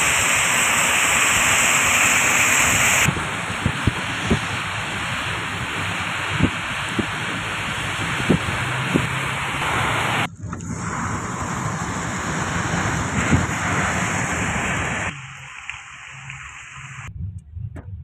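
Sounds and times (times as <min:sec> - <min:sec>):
wind noise: 0:00.0 - 0:15.2
tyres hissing on wet asphalt: 0:00.0 - 0:17.1.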